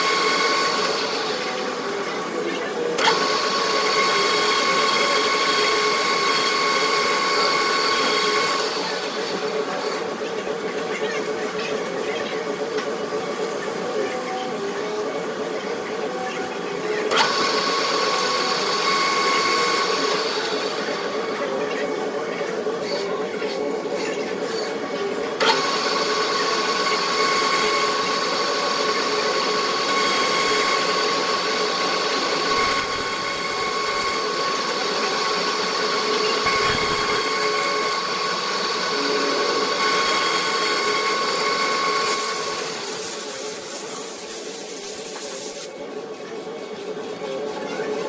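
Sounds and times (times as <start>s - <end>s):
metal lathe humming and whining: 0.0s - 45.8s.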